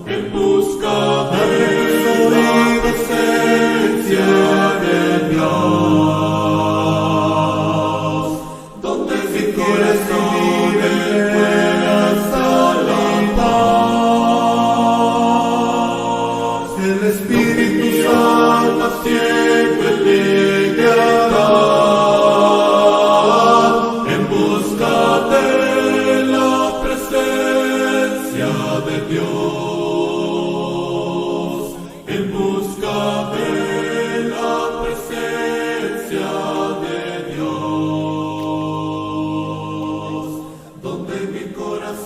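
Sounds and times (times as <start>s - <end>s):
group singing worship song: 0.0s - 42.0s.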